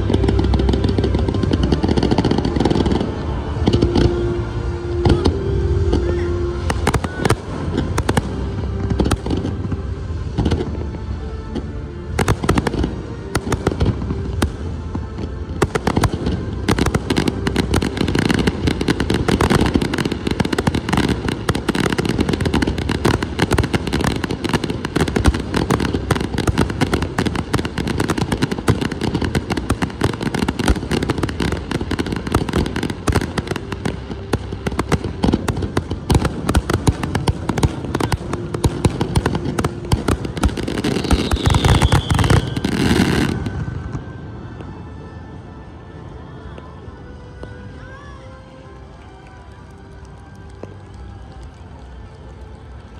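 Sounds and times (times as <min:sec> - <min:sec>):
fireworks bursting: 0:00.0 - 0:45.4.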